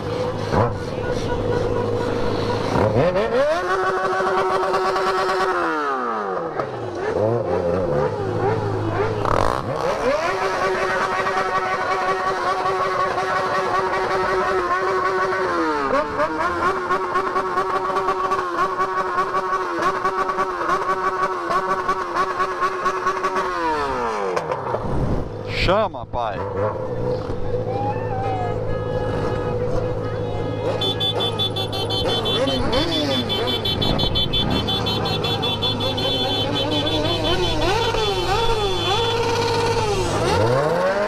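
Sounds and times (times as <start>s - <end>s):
motorcycle engine revving: 0.0s - 25.6s, 26.2s - 27.9s, 28.5s - 41.0s.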